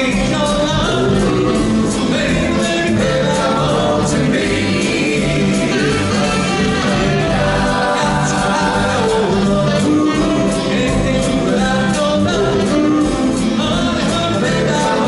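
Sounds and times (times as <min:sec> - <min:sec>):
backing band with steady beat: 0:00.0 - 0:15.0
doo-wop vocal group singing: 0:00.0 - 0:15.0.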